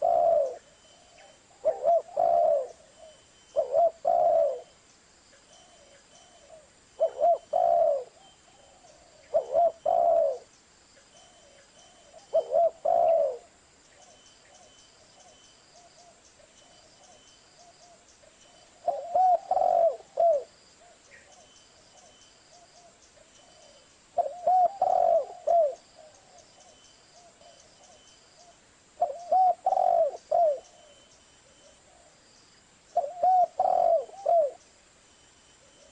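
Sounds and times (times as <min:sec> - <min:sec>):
dove cooing: 0:00.0 - 0:04.8, 0:05.5 - 0:10.5, 0:11.2 - 0:16.2, 0:18.6 - 0:32.2, 0:32.9 - 0:34.6.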